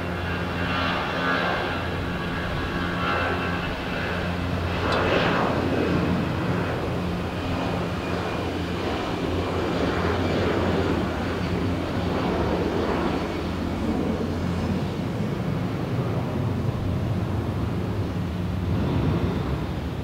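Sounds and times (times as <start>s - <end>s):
airliner engines running: 0.0s - 20.0s.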